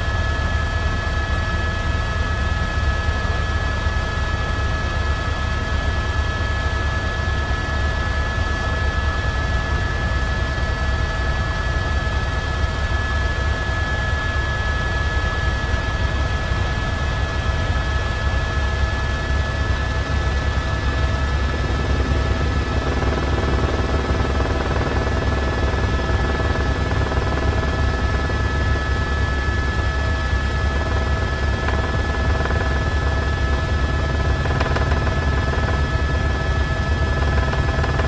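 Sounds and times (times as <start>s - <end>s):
engine drone with high whine: 0.0s - 38.0s.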